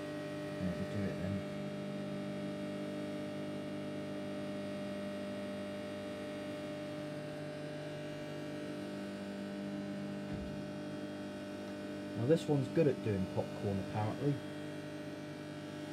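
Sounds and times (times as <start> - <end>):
microwave oven humming: 0.0 - 15.9.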